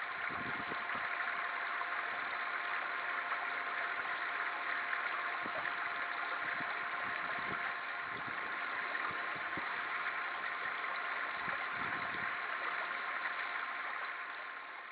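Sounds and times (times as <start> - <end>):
faint steady tones: 0.0 - 14.9.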